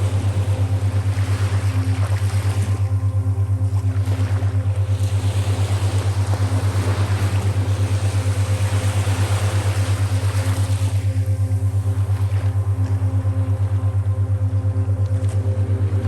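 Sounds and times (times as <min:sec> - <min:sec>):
boat engine throbbing: 0:00.0 - 0:16.0
wave washing in: 0:00.0 - 0:16.0.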